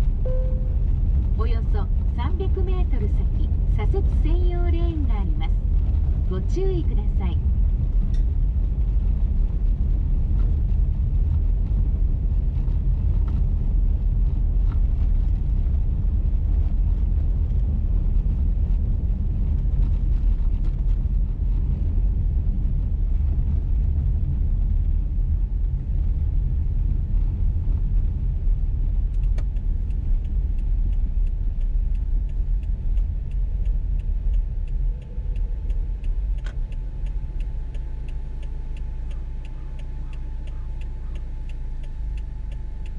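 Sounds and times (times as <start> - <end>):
car cabin road and engine rumble: 0.0 - 42.9
turn signal ticking: 0.0 - 42.9.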